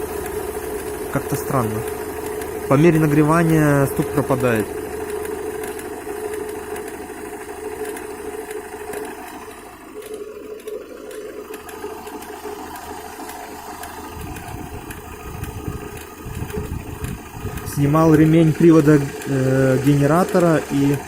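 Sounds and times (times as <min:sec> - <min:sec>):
car engine running: 0:00.0 - 0:21.0
engine knocking rattle: 0:00.0 - 0:21.0.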